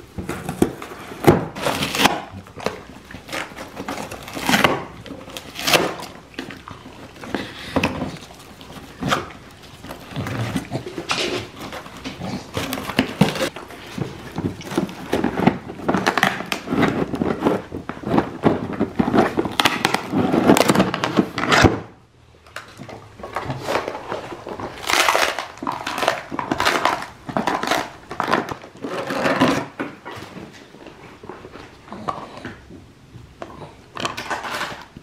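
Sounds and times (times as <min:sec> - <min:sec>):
dogs tearing cardboard: 0:00.2 - 0:21.8, 0:23.2 - 0:32.1, 0:33.9 - 0:35.0.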